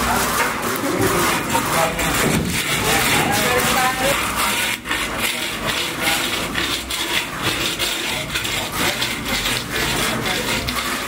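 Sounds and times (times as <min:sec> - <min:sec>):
metal trowel scraping mortar: 0:00.0 - 0:11.0.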